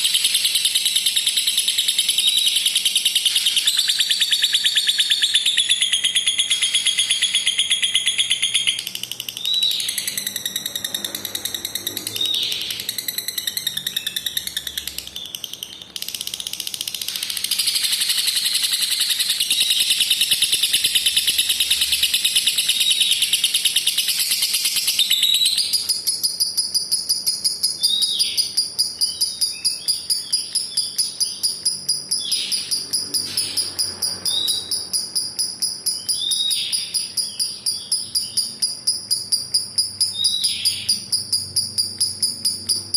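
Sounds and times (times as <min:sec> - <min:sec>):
lovebird trilling chatter: 0:00.0 - 0:42.9.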